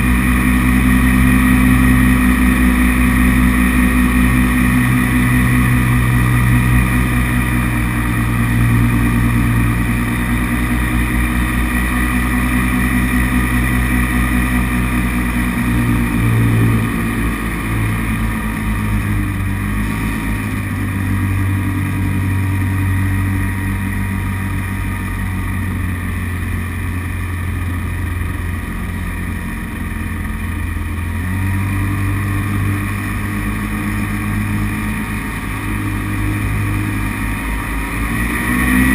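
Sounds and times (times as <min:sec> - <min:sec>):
paramotor engine running: 0:00.0 - 0:38.9.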